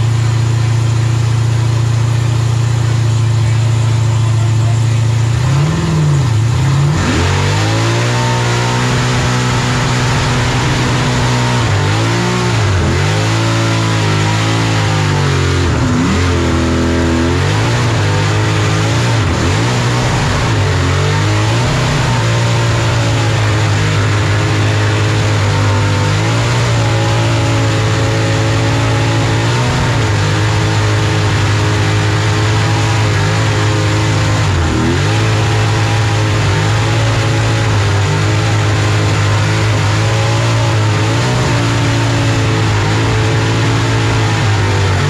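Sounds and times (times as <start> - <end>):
car engine at high revs: 0.0 - 45.0.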